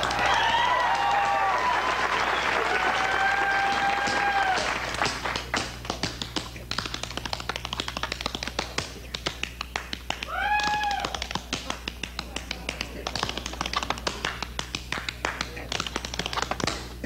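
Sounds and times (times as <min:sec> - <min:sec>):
tap shoes on stage floor: 0:00.0 - 0:01.8, 0:02.6 - 0:17.0.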